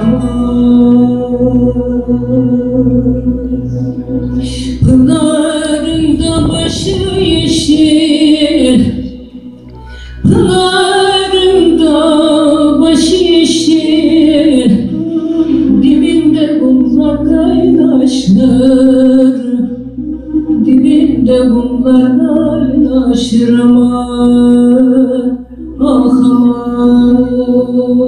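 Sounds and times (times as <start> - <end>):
woman singing folk song: 0.0 - 28.0.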